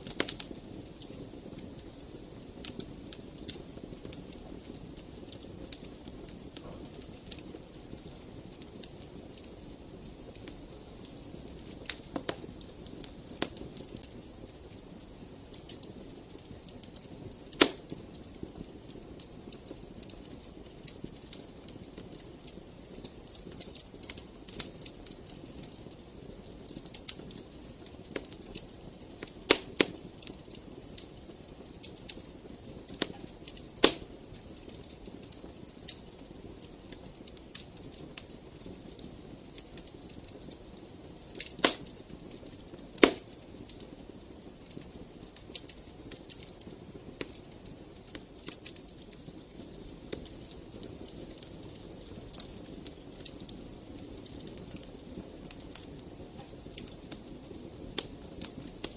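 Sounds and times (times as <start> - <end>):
fire pops: 0.0 - 58.9
wood fire crackling: 0.0 - 58.9.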